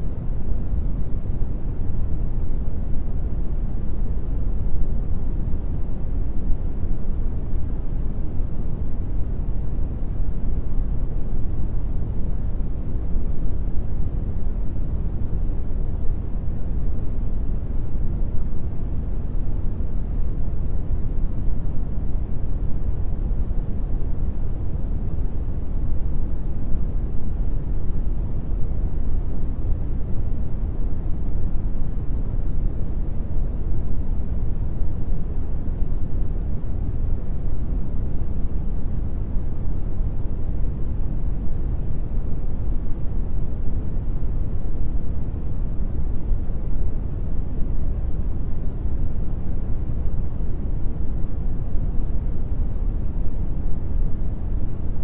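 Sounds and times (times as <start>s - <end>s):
deep rumbling brown noise: 0.0s - 55.0s.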